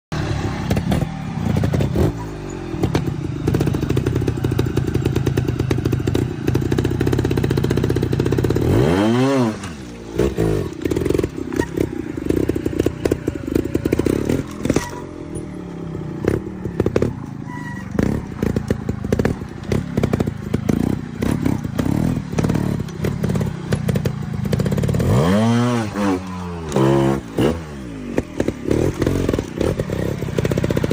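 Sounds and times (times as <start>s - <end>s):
motorcycle engine revving: 0.2s - 30.9s.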